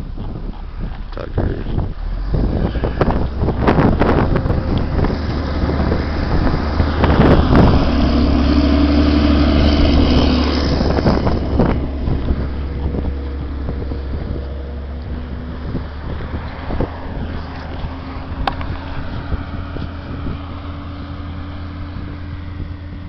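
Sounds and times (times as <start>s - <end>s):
snowcat engine running: 0.0s - 23.0s
wind buffeting microphone: 0.0s - 23.0s.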